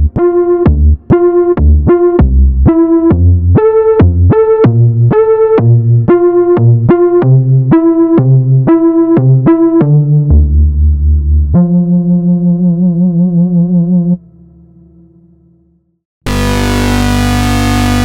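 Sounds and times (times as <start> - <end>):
plucked synthesizer notes: 0.0 - 15.2, 16.3 - 18.0
synthesizer bass notes: 0.0 - 15.2, 16.3 - 18.0.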